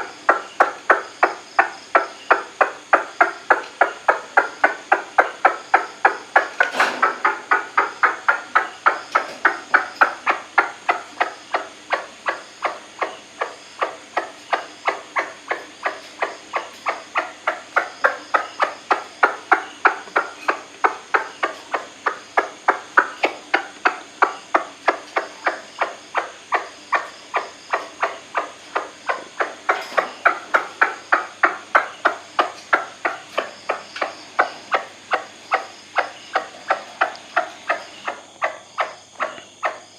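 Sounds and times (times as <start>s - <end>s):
waterhen calling: 0.0s - 39.8s.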